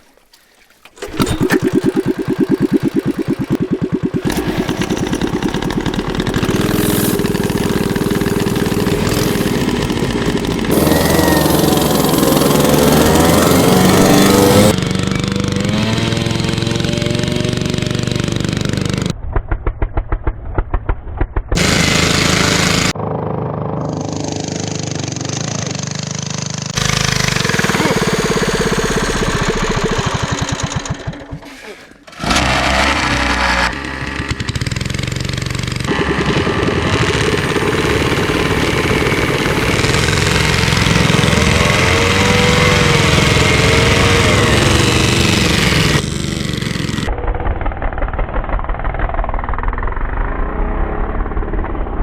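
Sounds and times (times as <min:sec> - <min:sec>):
motorcycle engines revving: 0:01.0 - 0:19.1, 0:21.6 - 0:47.1.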